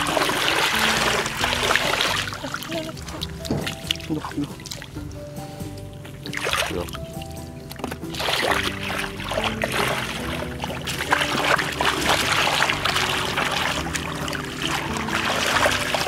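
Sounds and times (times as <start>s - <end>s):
hands churning mud: 0.0s - 16.0s
water splashing: 0.0s - 16.0s
water trickling: 0.0s - 16.0s.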